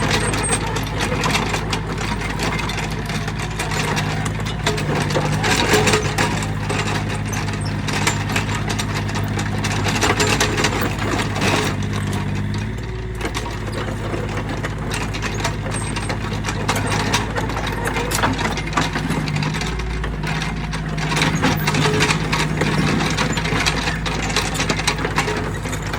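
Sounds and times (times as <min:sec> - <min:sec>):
clanks and rattles of bucket: 0:00.0 - 0:25.9
excavator engine running: 0:00.0 - 0:25.9.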